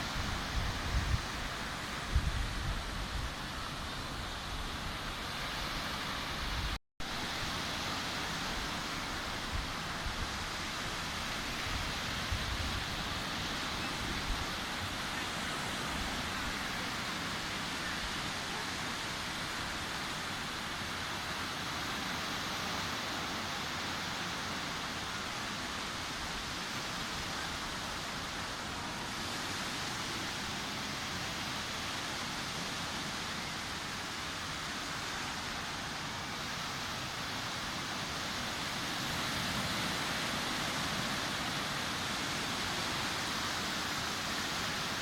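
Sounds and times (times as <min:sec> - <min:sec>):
sea surf washing onto beach: 0:00.0 - 0:45.0.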